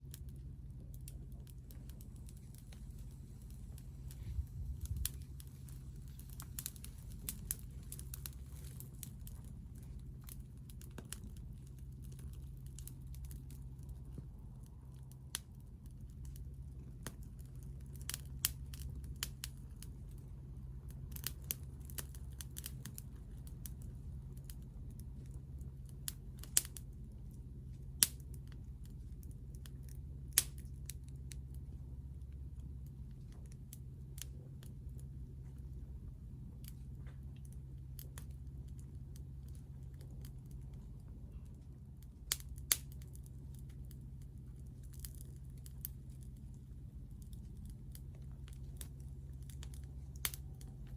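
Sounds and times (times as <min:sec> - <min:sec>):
low rumble: 0:00.0 - 0:50.9
wood fire crackling and popping: 0:00.0 - 0:50.9.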